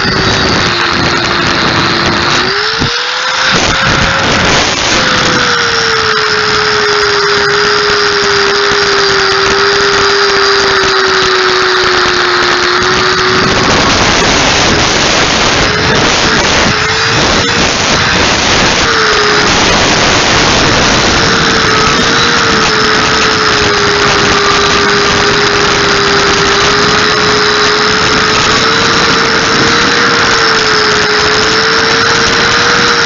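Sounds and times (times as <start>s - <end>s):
handheld grinder grinding metal: 0.0s - 33.0s.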